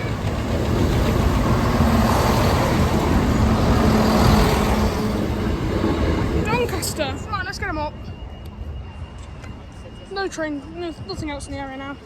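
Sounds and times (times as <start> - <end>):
train engine drone: 0.0 - 12.0
train wheel and rail noise: 0.0 - 12.0.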